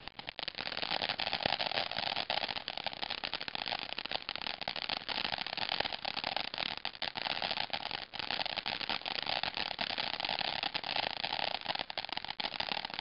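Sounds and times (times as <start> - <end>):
firework hissing and crackling: 0.0 - 13.0.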